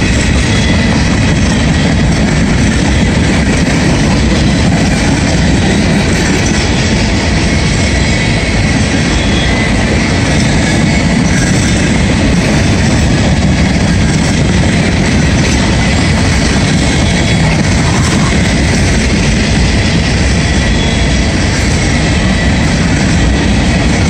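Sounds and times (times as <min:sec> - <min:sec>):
freight car wheels rumbling: 0:00.0 - 0:24.0.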